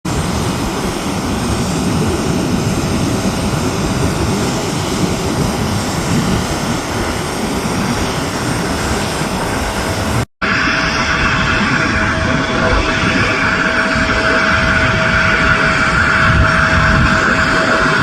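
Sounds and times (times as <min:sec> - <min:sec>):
jet engines rumbling: 0:00.0 - 0:18.0
high engine whine: 0:00.1 - 0:18.0.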